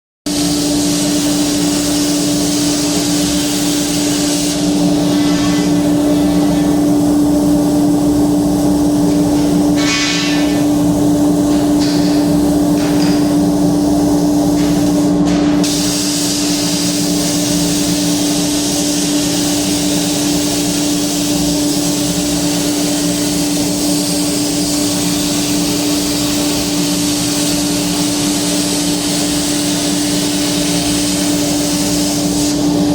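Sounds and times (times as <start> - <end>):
machine hiss: 0.3 - 32.9.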